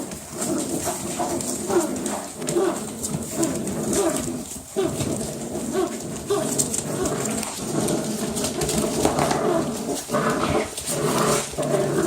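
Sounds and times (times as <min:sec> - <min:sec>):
paws scrabbling: 0:00.0 - 0:12.0
puppies growling and yipping: 0:00.0 - 0:12.0.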